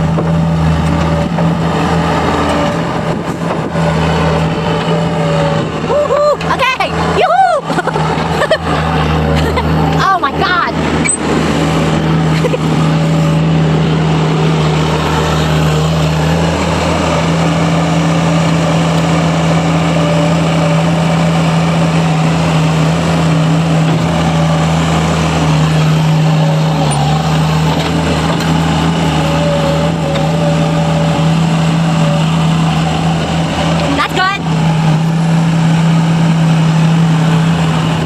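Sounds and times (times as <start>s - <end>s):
vehicle engine humming: 0.0s - 38.0s.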